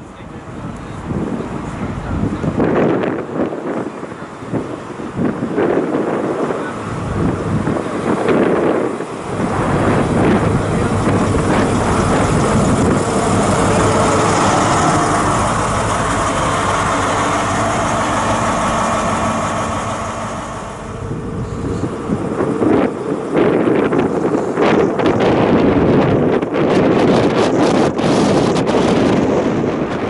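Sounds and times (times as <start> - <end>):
diesel engine running: 0.0 - 26.8
wind buffeting microphone: 0.0 - 30.0.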